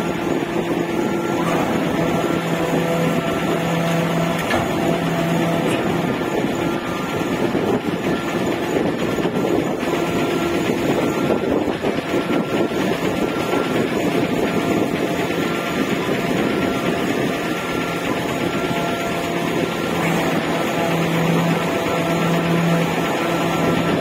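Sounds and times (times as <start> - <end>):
ship engines rumbling: 0.0 - 24.0.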